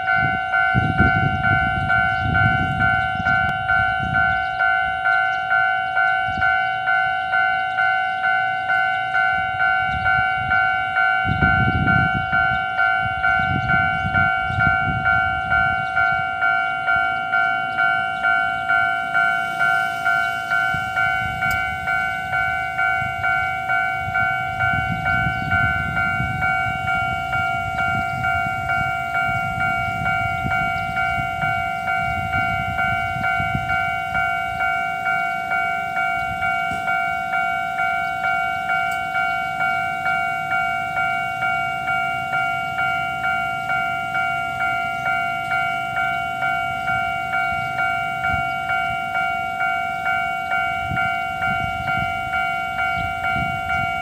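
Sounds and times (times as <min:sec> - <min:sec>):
level crossing bell ringing: 0:00.0 - 0:54.0.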